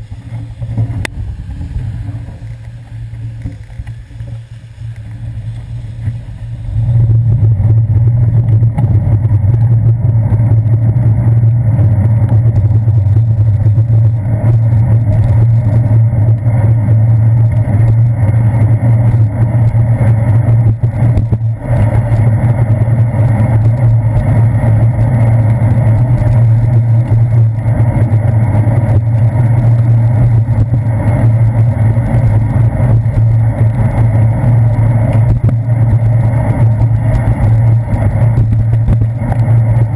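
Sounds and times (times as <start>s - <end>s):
bicycle rolling on wet pavement: 0.0s - 39.9s
wind noise: 0.0s - 39.9s.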